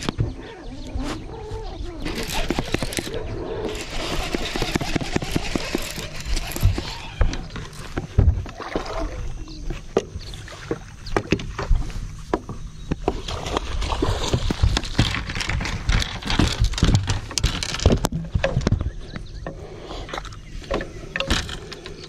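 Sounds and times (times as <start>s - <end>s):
boat engine rumble: 0.0s - 22.0s.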